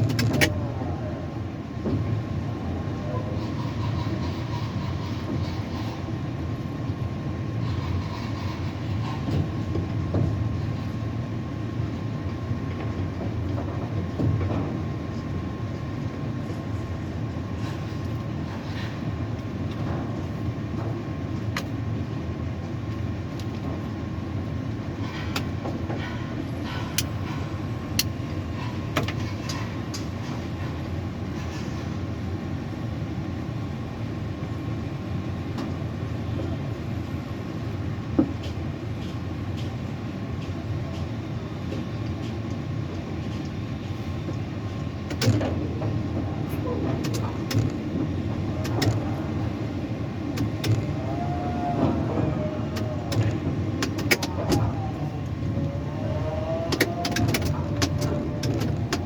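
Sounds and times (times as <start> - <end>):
low mechanical rumble: 0.0 - 59.0.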